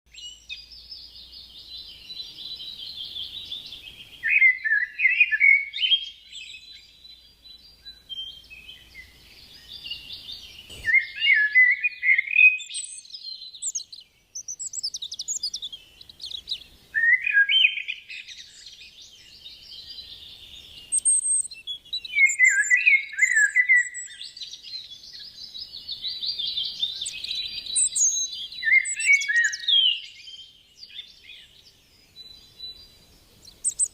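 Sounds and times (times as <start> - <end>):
birds chirping and warbling: 0.1 - 33.9.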